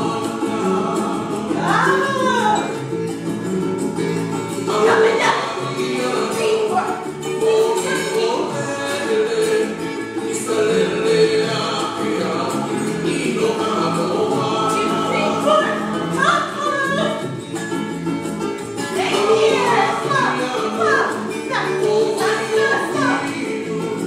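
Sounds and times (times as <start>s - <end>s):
hula-style song with singing: 0.0s - 24.0s.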